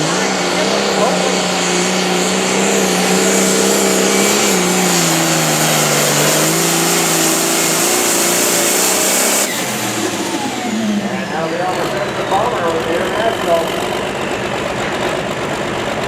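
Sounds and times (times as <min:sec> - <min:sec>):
high steady whine: 0:00.0 - 0:15.6
tractor engine running hard: 0:00.0 - 0:16.0.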